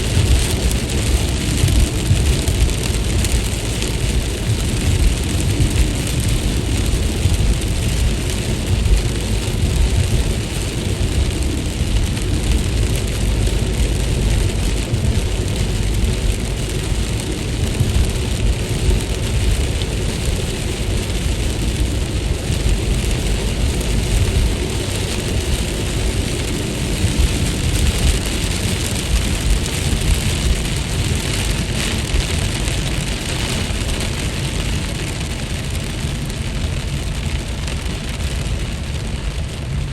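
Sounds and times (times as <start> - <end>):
deep rumble: 0.0 - 39.9
rain falling: 0.0 - 39.9.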